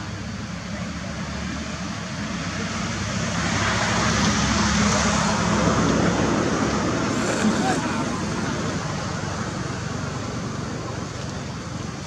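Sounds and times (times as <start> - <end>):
passing vehicle engine: 0.0 - 12.0.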